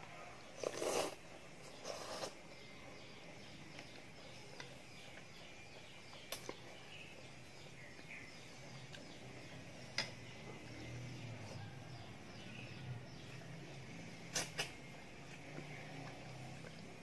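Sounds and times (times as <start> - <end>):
faint high chirping: 0.0 - 17.0.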